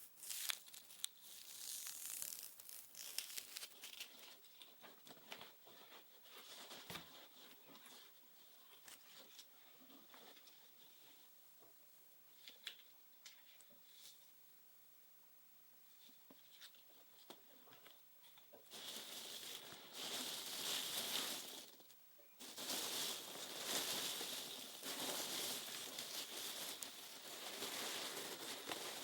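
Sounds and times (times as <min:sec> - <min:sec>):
material rustling and crinkling: 0:00.0 - 0:10.8, 0:16.3 - 0:29.0.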